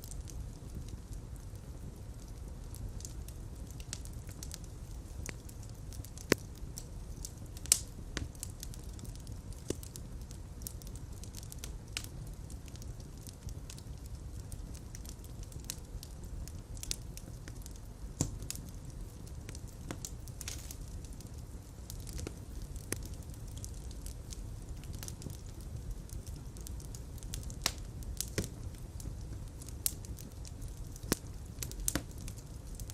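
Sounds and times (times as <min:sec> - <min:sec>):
open fire crackling and popping: 0:00.0 - 0:32.9.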